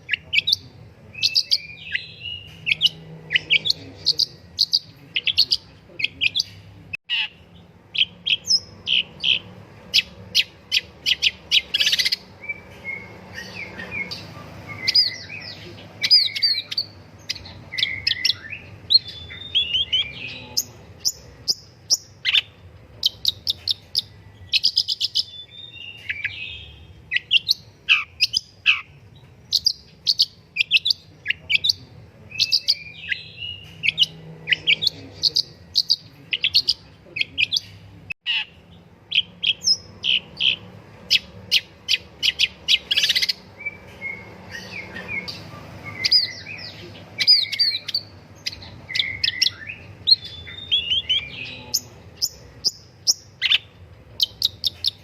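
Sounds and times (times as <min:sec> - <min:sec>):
shrike singing: 0:00.0 - 0:55.0.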